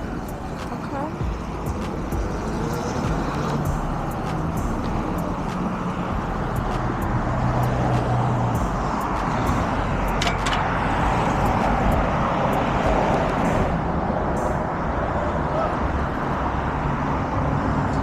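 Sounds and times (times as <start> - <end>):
wind rushing: 0.0 - 17.6
road noise: 0.0 - 18.0
traffic: 0.0 - 18.0.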